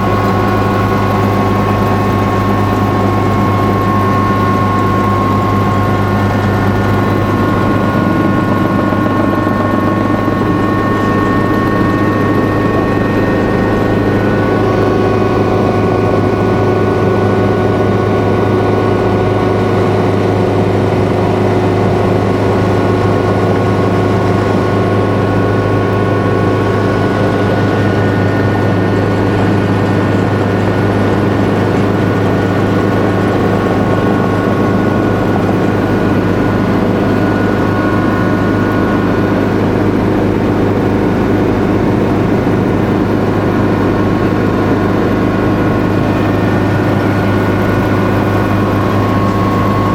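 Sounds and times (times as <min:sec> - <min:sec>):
helicopter hovering: 0:00.0 - 0:49.9.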